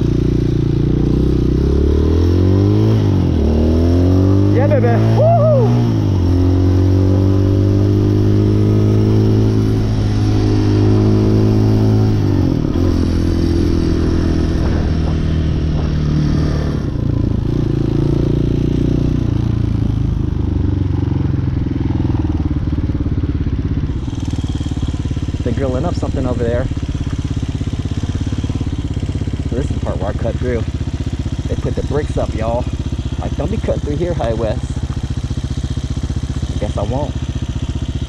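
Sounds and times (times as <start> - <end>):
dirt bike engine: 0.0 - 38.0
wind and road noise: 0.0 - 38.0.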